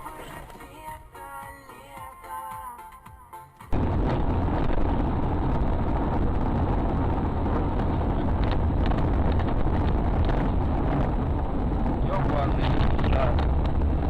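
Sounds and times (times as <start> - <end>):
car engine and road noise: 0.0 - 1.9, 3.7 - 14.0.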